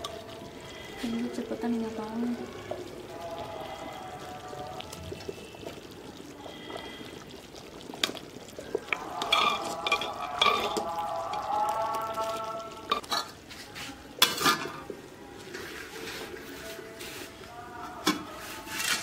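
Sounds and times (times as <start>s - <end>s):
spoon stirring thick liquid: 0.0s - 19.0s.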